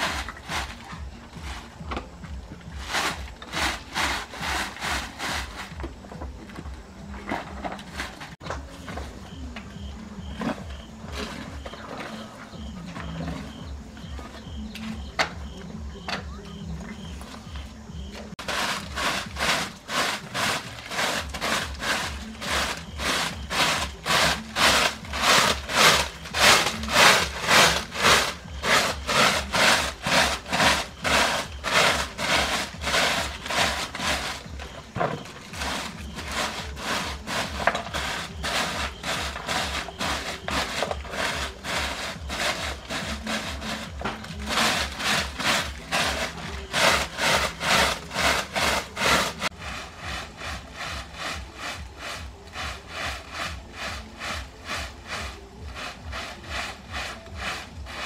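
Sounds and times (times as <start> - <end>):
broom sweeping bare ground: 0.0 - 58.0.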